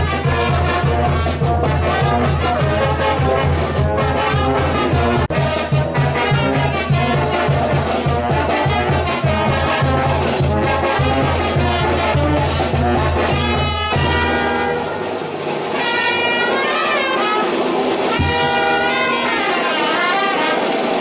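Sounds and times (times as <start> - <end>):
trombones and trumpets: 0.0 - 21.0.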